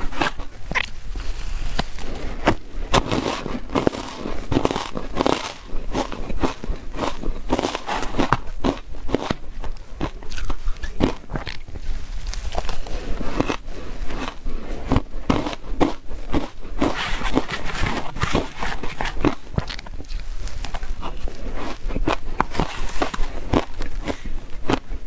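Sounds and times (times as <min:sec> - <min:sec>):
crunchy chewing of shaved ice: 0:00.0 - 0:25.0.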